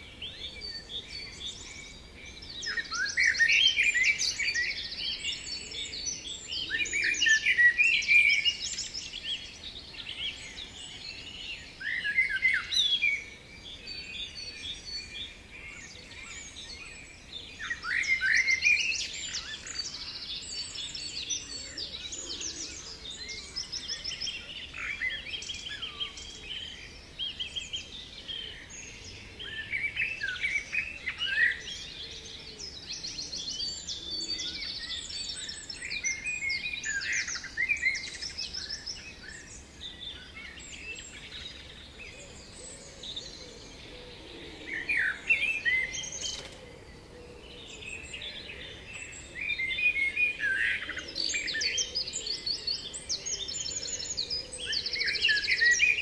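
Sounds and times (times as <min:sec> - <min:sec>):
birds singing: 0:00.0 - 0:56.0.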